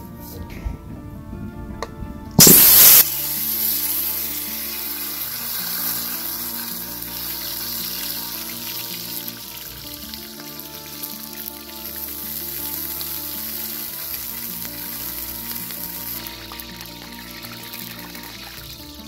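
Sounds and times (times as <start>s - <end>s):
background music with held notes: 0.0s - 19.0s
fat sizzling in hot wok: 2.4s - 19.0s.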